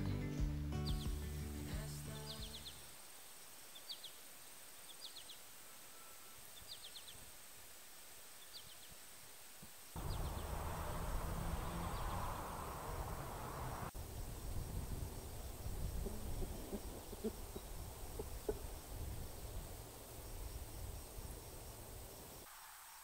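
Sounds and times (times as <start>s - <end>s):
songbird chirping: 0.0s - 23.0s
steady outdoor background noise: 0.0s - 23.0s.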